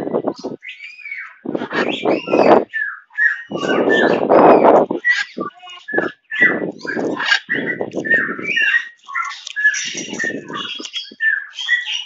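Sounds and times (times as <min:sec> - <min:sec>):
birds chirping: 0:00.0 - 0:12.0
harsh bird calls: 0:00.0 - 0:12.0.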